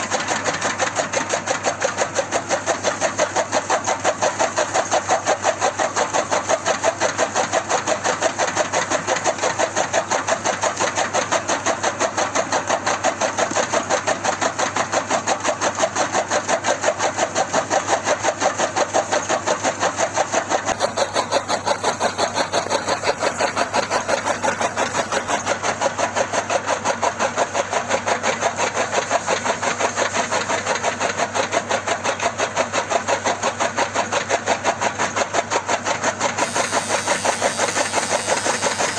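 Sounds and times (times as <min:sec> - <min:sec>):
chaff cutter rhythmic clatter: 0:00.0 - 0:38.9.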